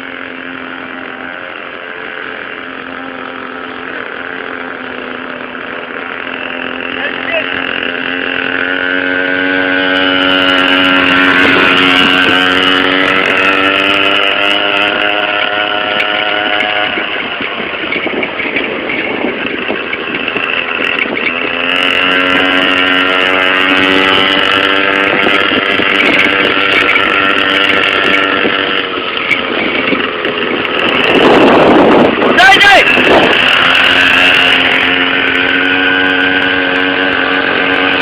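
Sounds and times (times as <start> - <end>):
motorbike engine at high revs: 0.0 - 38.0.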